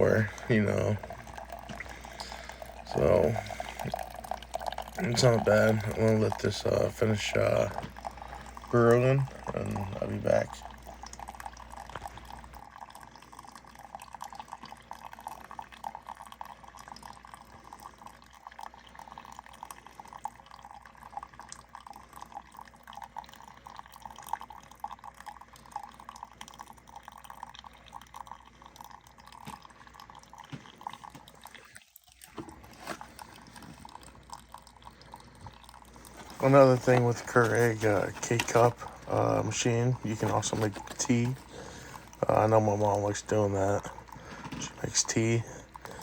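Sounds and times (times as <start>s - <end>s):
coffee dripping into a mug: 0.0s - 46.0s.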